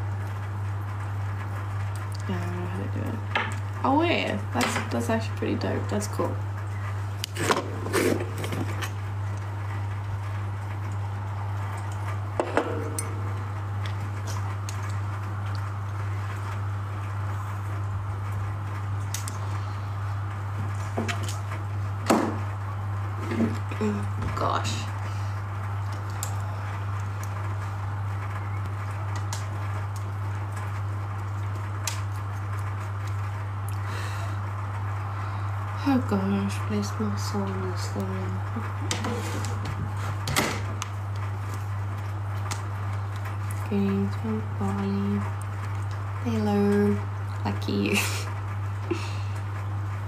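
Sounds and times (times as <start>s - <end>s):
steady low hum and hiss: 0.0s - 50.0s.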